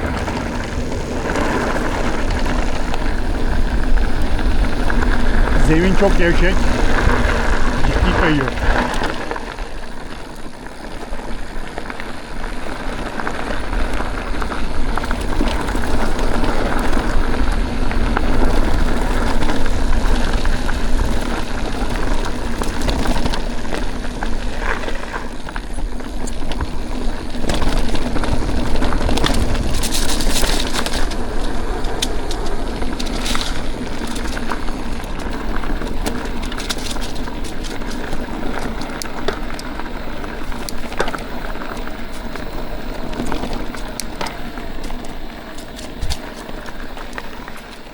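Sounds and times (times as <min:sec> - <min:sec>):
bike rattling: 0:00.0 - 0:47.9
bike tyres crunching on gravel: 0:00.0 - 0:47.9.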